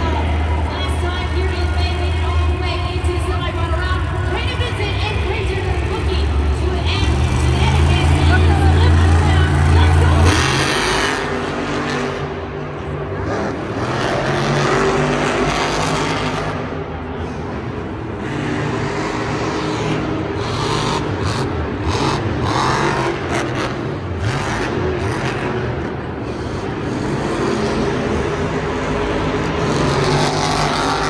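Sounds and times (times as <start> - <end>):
truck engine revving loudly: 5.1 - 31.0.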